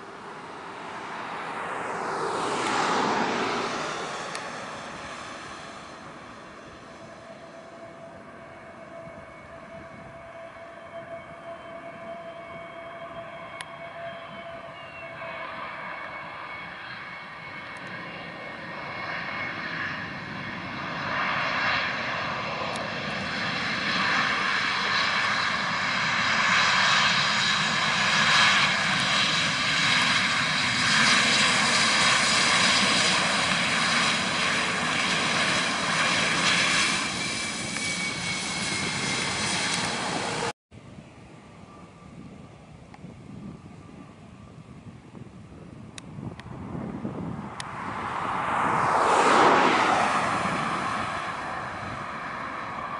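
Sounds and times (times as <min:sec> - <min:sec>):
jet engines roaring and whining: 0:00.0 - 0:52.9.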